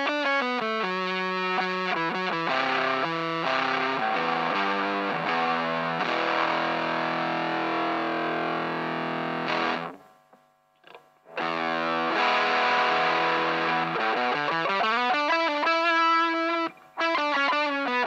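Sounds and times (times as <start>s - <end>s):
distorted electric guitar: 0.0s - 10.2s, 10.8s - 18.0s.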